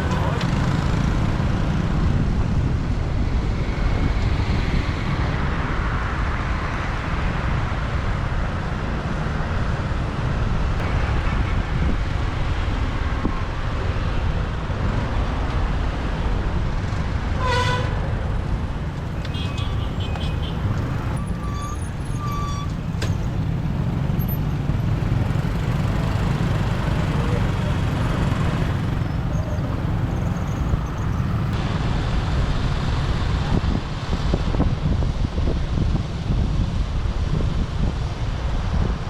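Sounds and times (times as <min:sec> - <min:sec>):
motorbike engine and road noise: 0:00.0 - 0:39.0.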